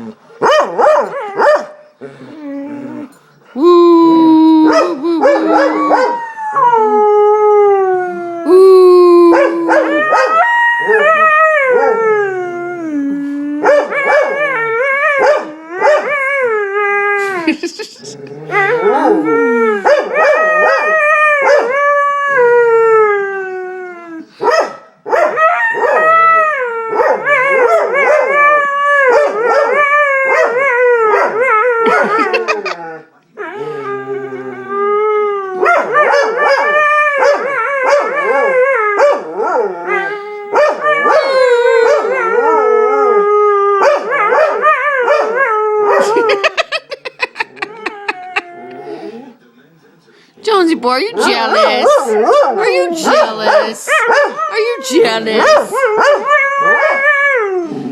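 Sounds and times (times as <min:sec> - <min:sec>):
dog howling: 0:02.4 - 0:17.2, 0:18.1 - 0:24.3, 0:25.2 - 0:46.7, 0:51.2 - 0:57.9.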